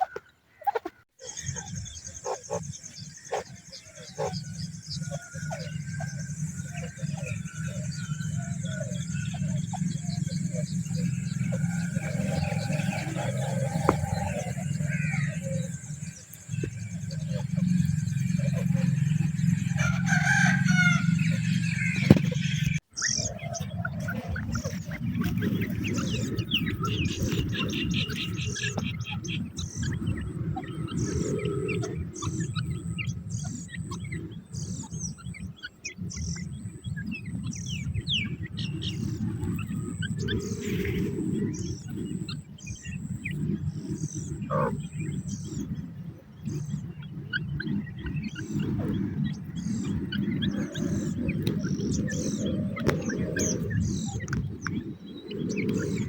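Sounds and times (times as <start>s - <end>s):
birds chirping and calling: 0.0s - 56.0s
steady low rumble: 1.4s - 56.0s.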